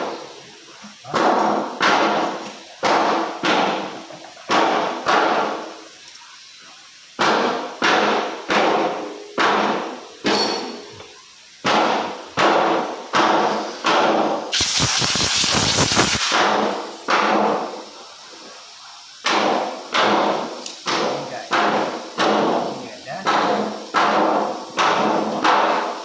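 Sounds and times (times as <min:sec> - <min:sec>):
hissing noise: 0:00.0 - 0:26.0.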